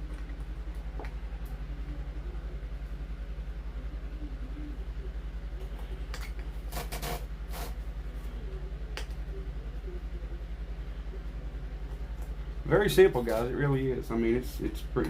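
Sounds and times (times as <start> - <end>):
low mechanical hum with fast pulse: 0.0 - 15.0.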